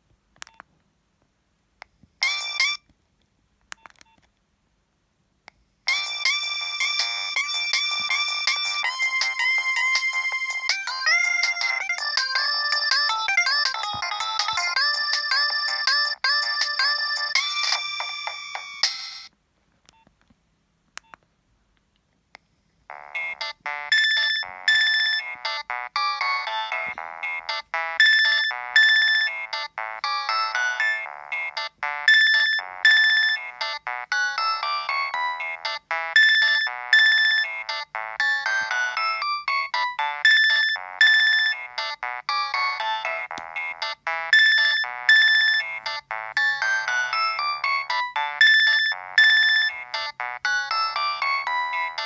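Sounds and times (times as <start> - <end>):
mobile phone ringtone: 2.2 - 2.8, 5.9 - 19.3, 22.9 - 52.0.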